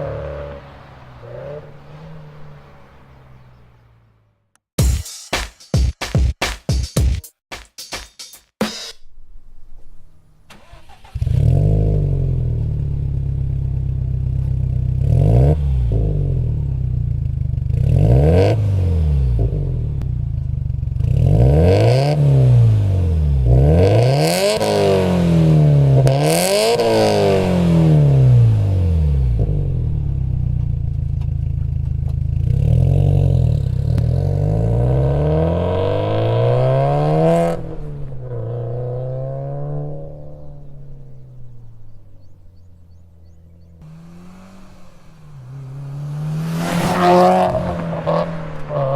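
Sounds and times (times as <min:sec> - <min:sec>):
car engine idling and revving: 0:00.0 - 0:04.7, 0:09.7 - 0:48.9.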